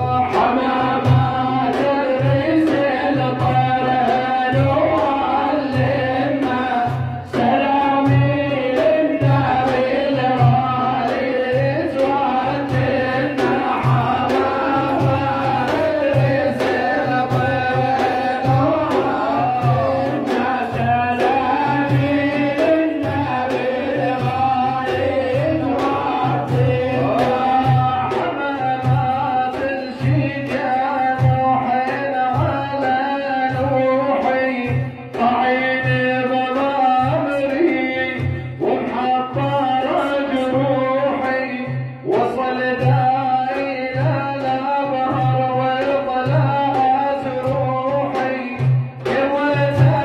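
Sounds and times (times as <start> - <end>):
frame drums beating: 0.0 - 50.0
man singing devotional song: 0.0 - 50.0.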